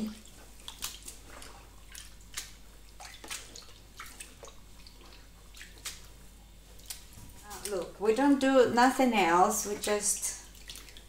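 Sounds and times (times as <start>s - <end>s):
water splashing in plastic bowl: 0.0s - 8.2s, 9.6s - 11.0s.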